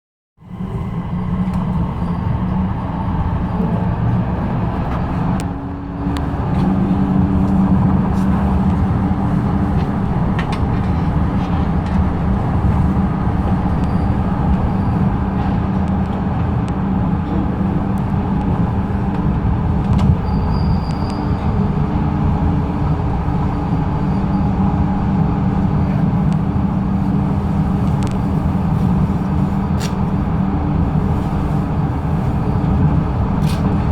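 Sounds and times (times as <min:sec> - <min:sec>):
light metro train rumbling: 0:00.4 - 0:33.9.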